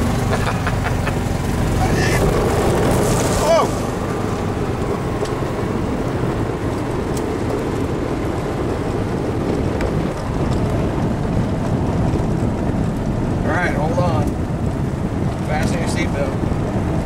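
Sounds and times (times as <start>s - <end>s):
golf cart driving: 0.0s - 17.0s
wind buffeting microphone: 0.0s - 17.0s.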